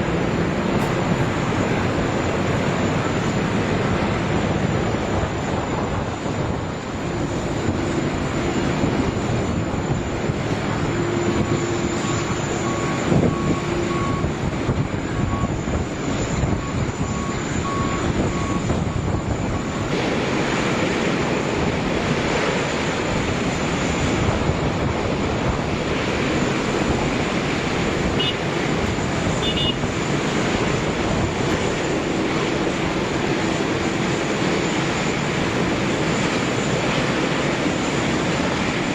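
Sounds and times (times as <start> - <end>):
jet engines rushing with whine: 0.0 - 38.9.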